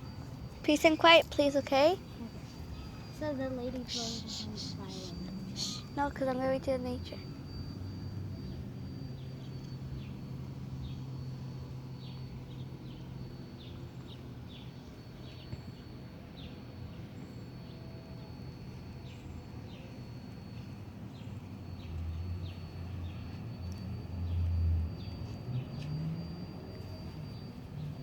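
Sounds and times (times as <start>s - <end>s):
distant traffic rumble: 0.0s - 28.0s
thin steady high tone: 0.0s - 28.0s
small birds chirping: 0.1s - 28.0s.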